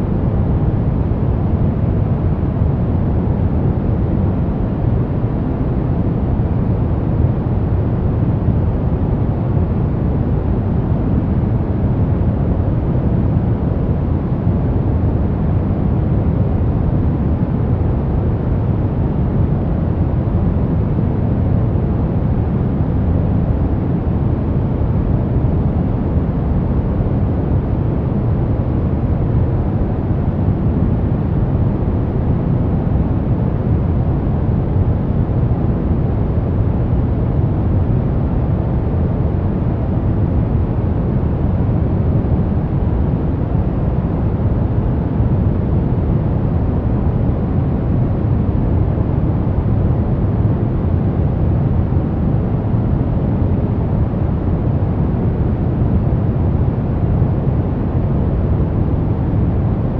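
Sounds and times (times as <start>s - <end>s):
deep white noise hiss: 0.0s - 59.9s.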